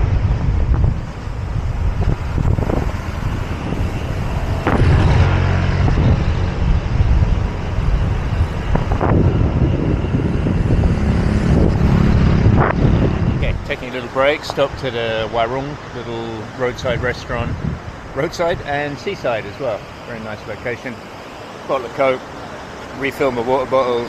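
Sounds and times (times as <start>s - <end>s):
road traffic: 0.0s - 24.0s
vehicles passing: 0.0s - 24.0s
wind rumbling on microphone: 0.0s - 24.0s.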